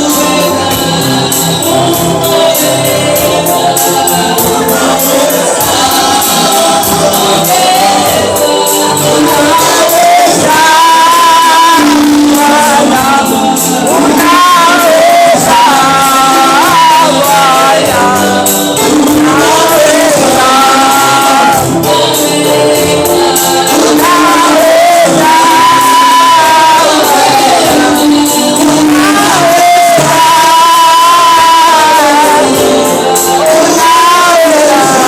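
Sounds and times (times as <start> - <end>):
band playing steady beat: 0.0 - 35.0
gospel lead and choir singing: 0.0 - 35.0.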